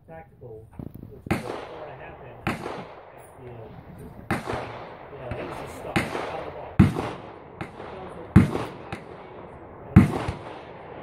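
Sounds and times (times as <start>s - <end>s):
gunshots with ringing tail: 1.2s - 11.0s.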